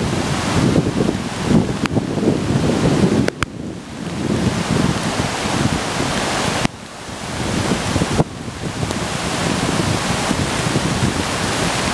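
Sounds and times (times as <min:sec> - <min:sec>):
strong wind buffeting microphone: 0:00.0 - 0:11.9.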